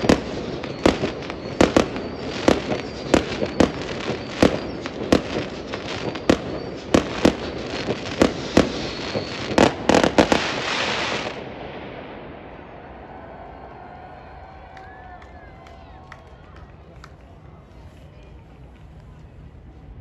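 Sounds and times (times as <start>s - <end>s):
fireworks bangs: 0.0s - 17.2s
fireworks crackling: 0.0s - 20.0s.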